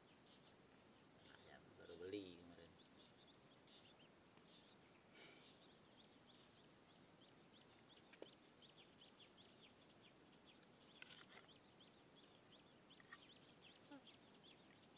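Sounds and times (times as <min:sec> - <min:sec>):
high-pitched insect trill: 0:00.0 - 0:14.9.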